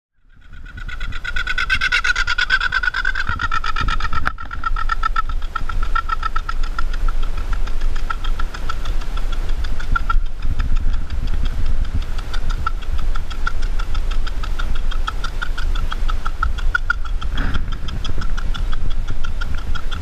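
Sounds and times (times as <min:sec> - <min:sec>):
bird calling in pulses: 0:00.2 - 0:20.0
wind rumble on microphone: 0:00.2 - 0:20.0.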